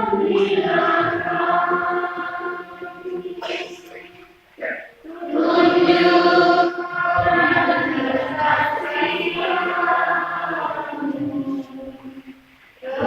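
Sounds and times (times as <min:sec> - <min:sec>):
children's choir singing hymn: 0:00.0 - 0:13.0.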